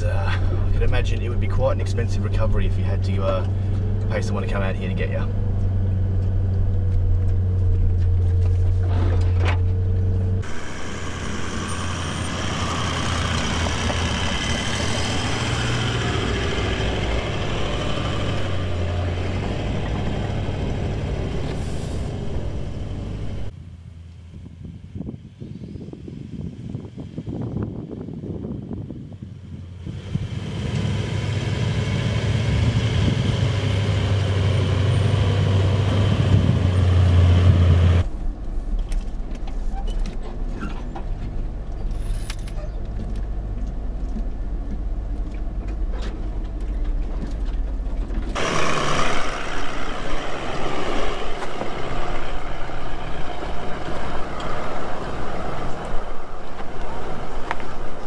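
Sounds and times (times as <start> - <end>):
engine working under load: 0.0 - 39.0, 40.0 - 58.0.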